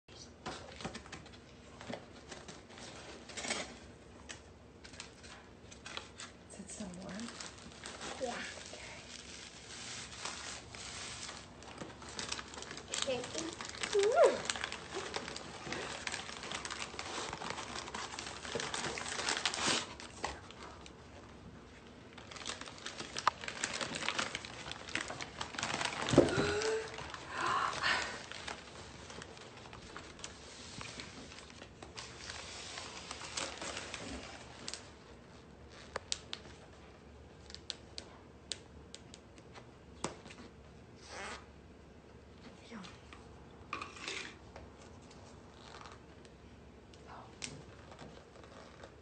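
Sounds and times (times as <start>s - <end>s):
packaging crinkling and rustling: 0.5s - 41.4s, 43.8s - 46.4s, 47.1s - 49.0s.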